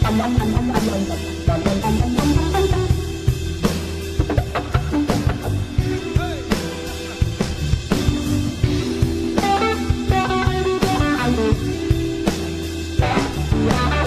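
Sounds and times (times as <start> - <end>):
bass and drums: 0.0 - 14.0
electric guitar lead: 0.0 - 14.0.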